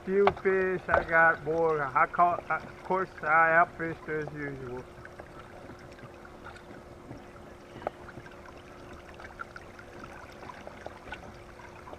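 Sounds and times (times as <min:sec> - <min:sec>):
creek water trickling: 0:00.0 - 0:11.9
faint steady hum: 0:00.0 - 0:11.9
small drips and ticks: 0:00.0 - 0:11.9.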